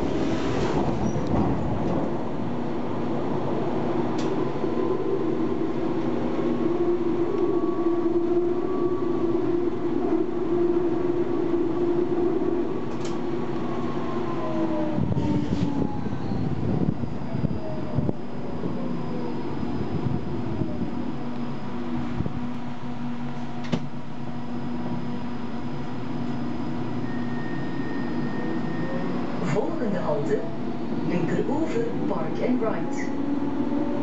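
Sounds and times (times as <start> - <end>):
tram wheels rumbling on rail: 0.0 - 34.0.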